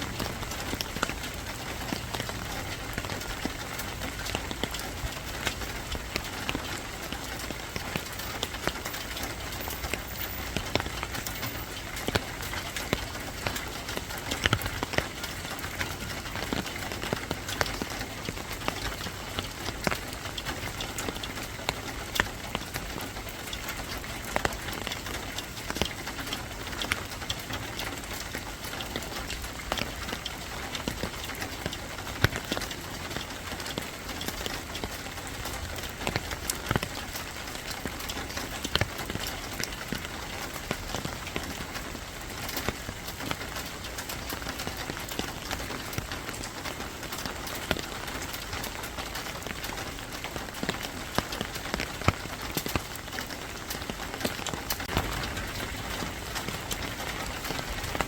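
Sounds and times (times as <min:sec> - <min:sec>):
raindrops tapping sharply: 0:00.0 - 0:58.0
steady rain falling: 0:00.0 - 0:58.0.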